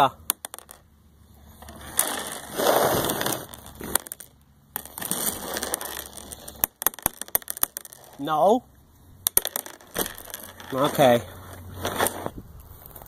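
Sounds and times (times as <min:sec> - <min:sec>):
pebbles scraping on plastic slide: 0:00.5 - 0:00.8, 0:01.4 - 0:08.6, 0:09.4 - 0:13.0.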